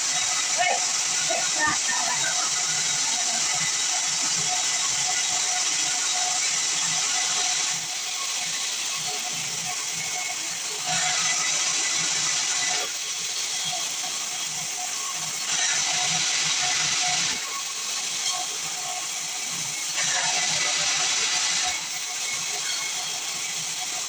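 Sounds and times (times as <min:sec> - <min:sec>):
sawmill machine running: 0:00.0 - 0:24.0
sawmill saw hissing through wood: 0:00.0 - 0:24.0.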